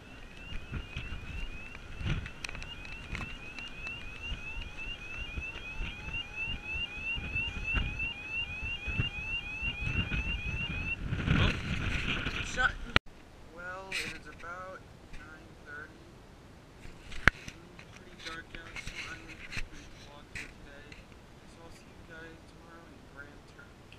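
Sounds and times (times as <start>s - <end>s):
wind rumbling on microphone: 0.0s - 23.9s.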